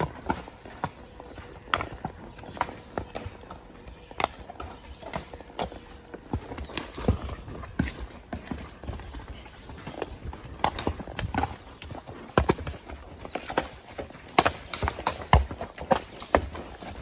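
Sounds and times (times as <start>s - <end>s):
horse hooves on dirt trail: 0.0s - 17.0s.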